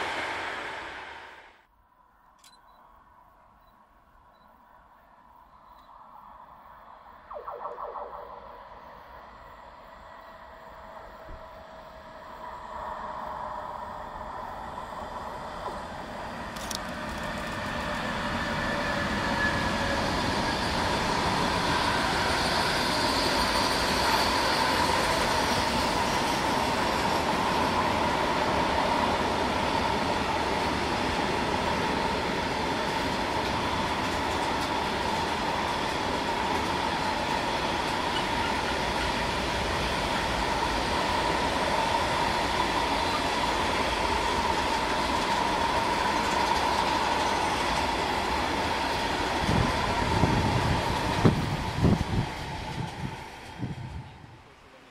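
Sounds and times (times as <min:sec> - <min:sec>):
freight train wheels rumbling: 0:09.6 - 0:54.9.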